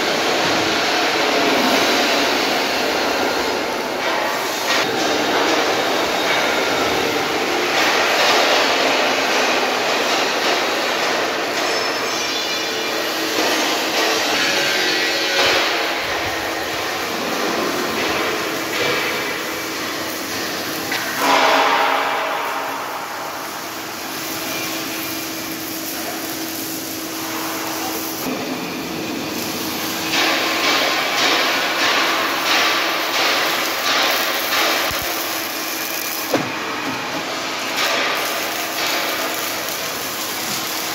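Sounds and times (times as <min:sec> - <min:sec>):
hiss and crackle of welding: 0:00.0 - 0:40.9.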